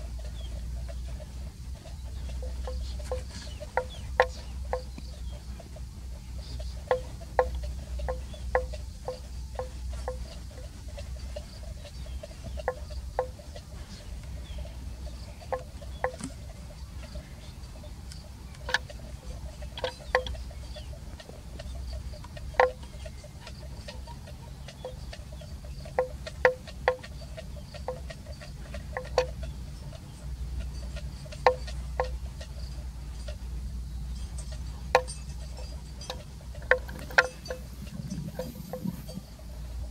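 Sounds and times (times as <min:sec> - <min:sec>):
low steady rumble: 0:00.0 - 0:39.9.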